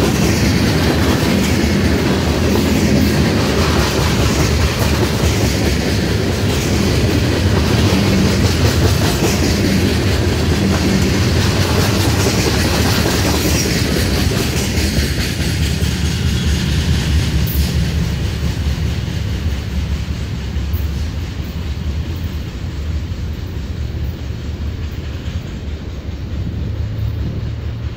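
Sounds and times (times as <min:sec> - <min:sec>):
train wheels clattering over rails: 0:00.0 - 0:27.9.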